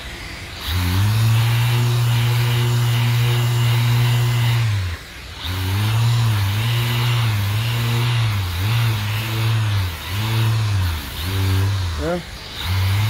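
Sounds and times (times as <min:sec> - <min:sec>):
orbital sander humming: 0:00.0 - 0:13.0.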